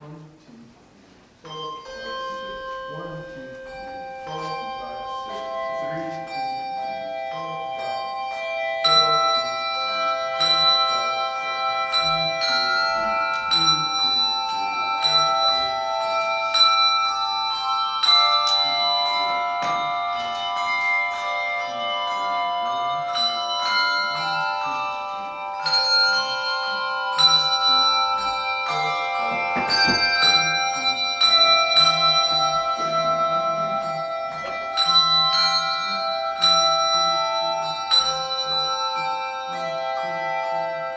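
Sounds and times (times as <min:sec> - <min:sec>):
handbell choir playing: 0:01.4 - 0:40.9.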